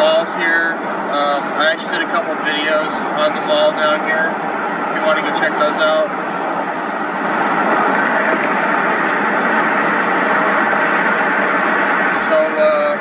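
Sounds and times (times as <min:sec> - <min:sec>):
car engine: 0:00.0 - 0:13.0
tyre and wind road noise: 0:00.0 - 0:13.0.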